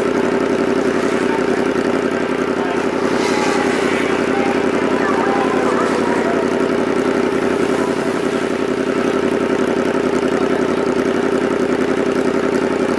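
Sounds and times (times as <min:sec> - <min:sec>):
motorcycle engine running low revs: 0:00.0 - 0:12.9.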